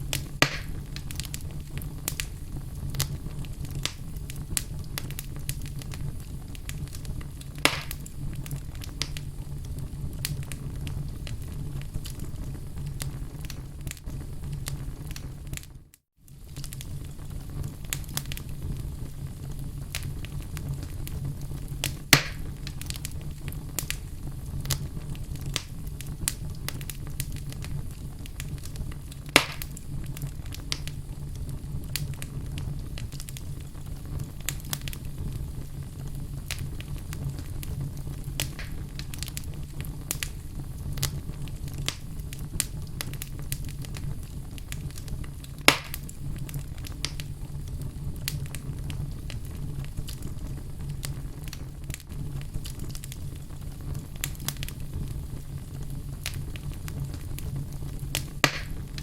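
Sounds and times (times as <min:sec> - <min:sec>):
burning logs popping: 0:00.0 - 0:59.0
fire crackling: 0:00.0 - 0:59.0
low rumble of flames: 0:00.0 - 0:59.0.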